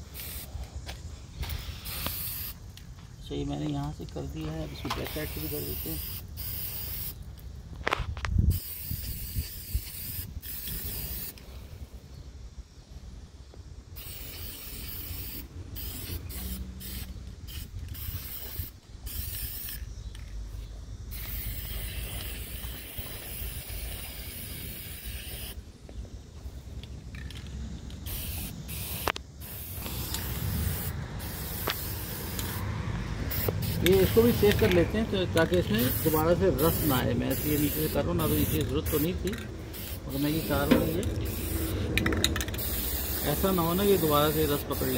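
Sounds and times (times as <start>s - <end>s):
spray paint can hissing: 0.0s - 2.8s, 4.9s - 7.5s, 8.4s - 11.6s, 13.9s - 25.6s, 27.1s - 32.6s, 33.3s - 44.9s.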